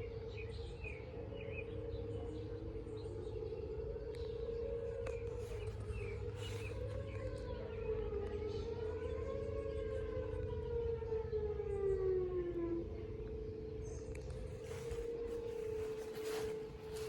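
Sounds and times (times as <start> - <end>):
low hum: 0.0 - 17.0
steady wailing siren: 0.0 - 17.0.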